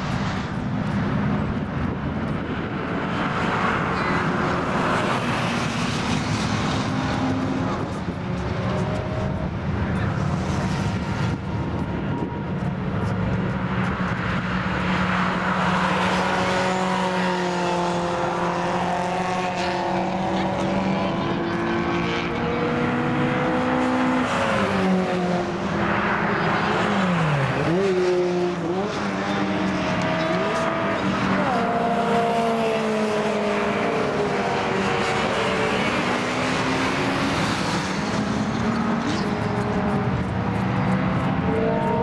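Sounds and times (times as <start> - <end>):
racing car engine revving: 0.0 - 42.0.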